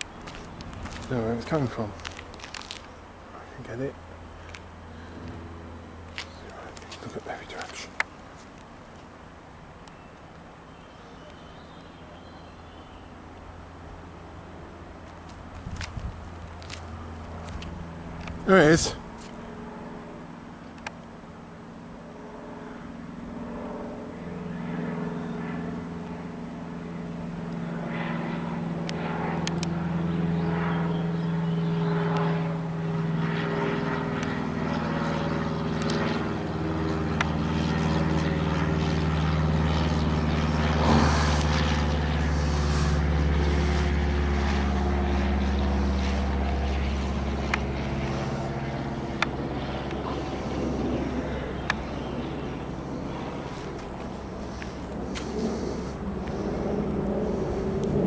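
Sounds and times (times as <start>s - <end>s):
light aircraft flying over: 0.0s - 58.0s.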